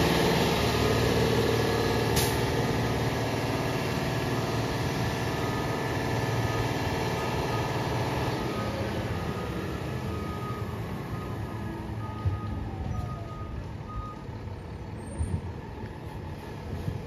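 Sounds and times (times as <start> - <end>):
garbage truck engine pulling away: 0.0 - 17.0.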